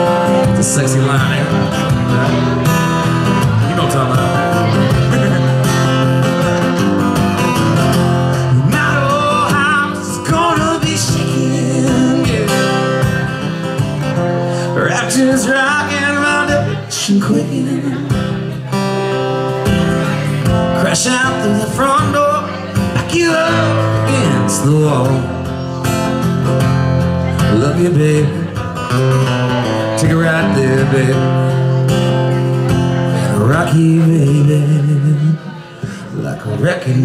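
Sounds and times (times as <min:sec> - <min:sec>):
man singing: 0:00.0 - 0:18.8, 0:19.6 - 0:26.2, 0:27.2 - 0:37.0
acoustic guitar strumming: 0:00.0 - 0:37.0.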